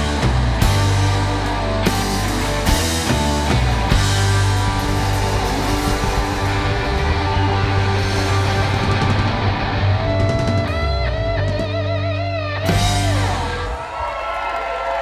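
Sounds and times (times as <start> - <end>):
guitar chords ringing: 0.0 - 13.7
live rock band playing: 0.0 - 13.9.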